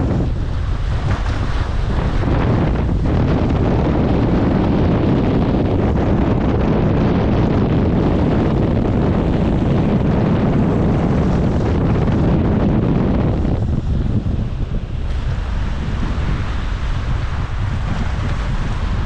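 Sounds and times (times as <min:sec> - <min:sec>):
waves washing over rocks: 0:00.0 - 0:19.0
wind buffeting microphone: 0:00.0 - 0:19.0.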